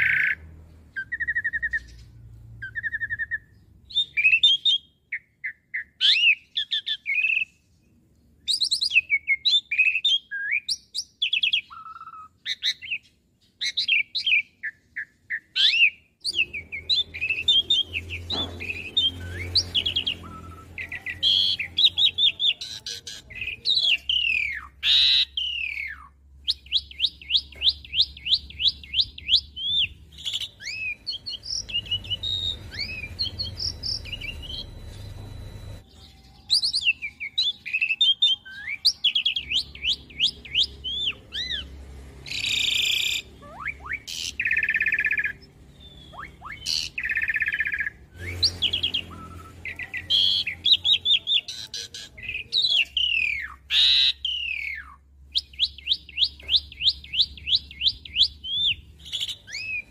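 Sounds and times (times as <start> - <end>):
starling singing chirps and whistles: 0.0 - 7.7, 8.4 - 59.9.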